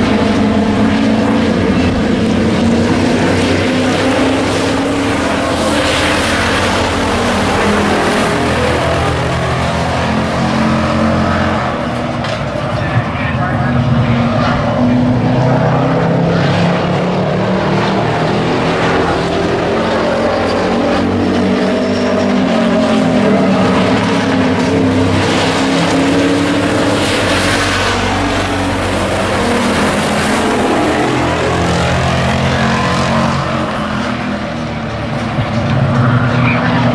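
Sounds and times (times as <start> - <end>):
race truck engines passing: 0.0 - 36.9.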